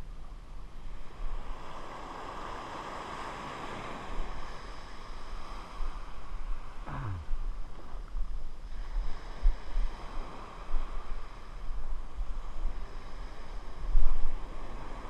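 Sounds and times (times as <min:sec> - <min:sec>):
surf washing up beach: 0:00.8 - 0:07.2, 0:08.6 - 0:15.0.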